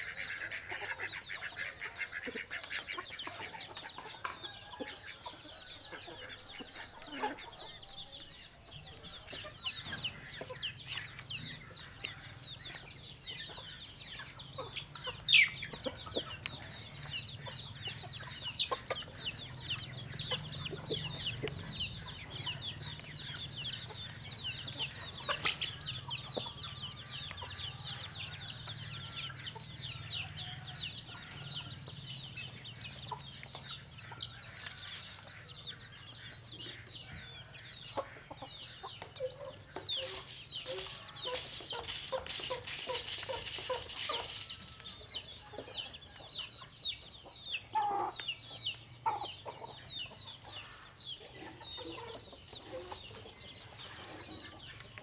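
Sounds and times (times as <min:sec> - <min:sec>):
chickens sharp calls: 0:00.0 - 0:55.0
chicks peeping: 0:00.0 - 0:55.0.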